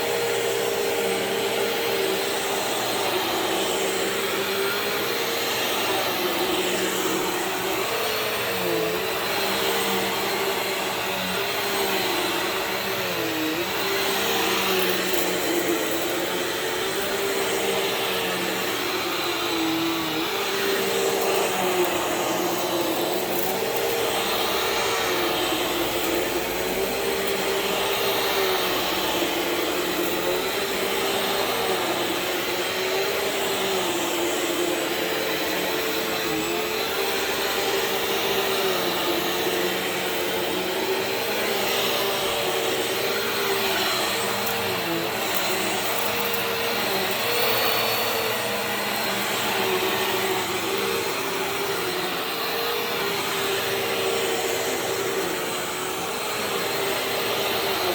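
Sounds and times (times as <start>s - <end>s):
vacuum cleaner running on carpet: 0.0s - 57.9s.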